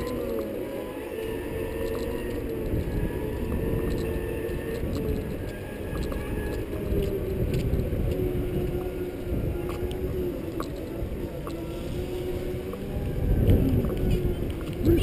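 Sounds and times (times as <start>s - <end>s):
electric drive whine: 0.0s - 14.9s
wheels rumbling on concrete: 0.0s - 15.0s.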